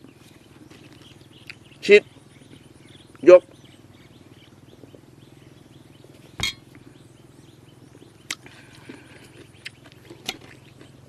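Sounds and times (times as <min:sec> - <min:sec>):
faint bird chirps: 0:00.0 - 0:11.0
steady low hum: 0:00.0 - 0:11.0.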